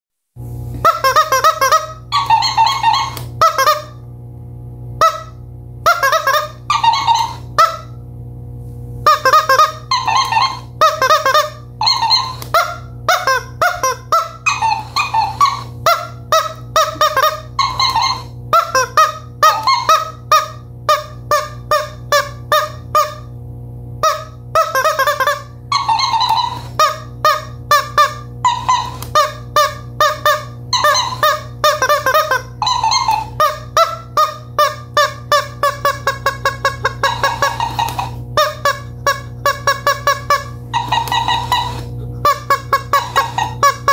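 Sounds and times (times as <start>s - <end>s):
rubber chicken toy squawking: 0.8s - 4.0s, 5.0s - 8.0s, 9.0s - 23.3s, 24.0s - 43.9s
talking toy repeating squawks: 0.8s - 4.0s, 5.0s - 8.0s, 9.1s - 23.3s, 24.0s - 43.9s.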